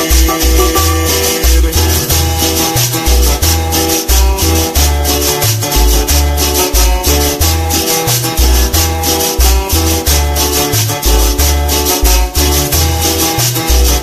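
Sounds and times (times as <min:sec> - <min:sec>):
latin dance song: 0:00.0 - 0:14.0.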